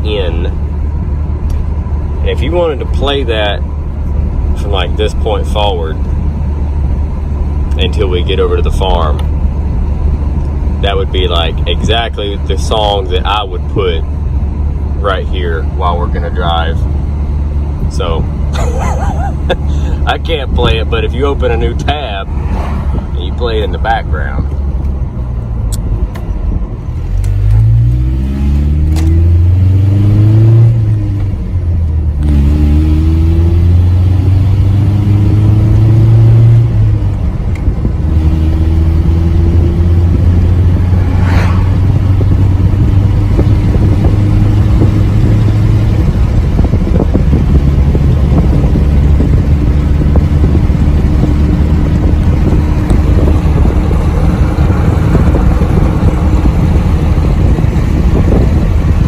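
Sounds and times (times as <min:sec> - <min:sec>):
truck engine accelerating: 0:00.0 - 0:59.0.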